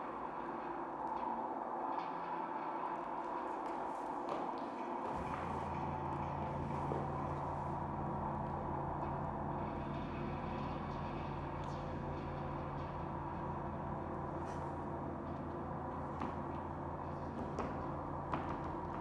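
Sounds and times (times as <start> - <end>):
low droning hum: 0.0 - 19.0.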